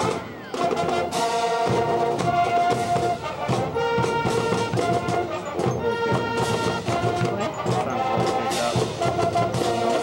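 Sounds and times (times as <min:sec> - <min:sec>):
brass chords: 0:00.0 - 0:10.0.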